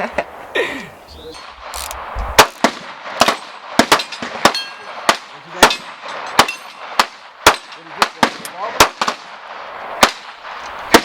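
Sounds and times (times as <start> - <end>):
gunshots: 1.5 - 11.0.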